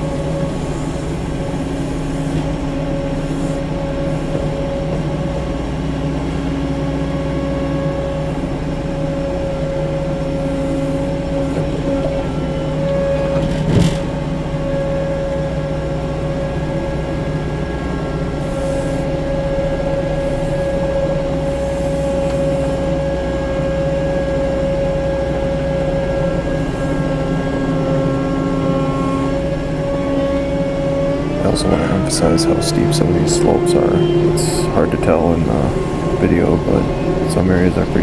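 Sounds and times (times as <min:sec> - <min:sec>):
high whine: 0:00.0 - 0:38.0
skid steer engine running: 0:00.0 - 0:38.0.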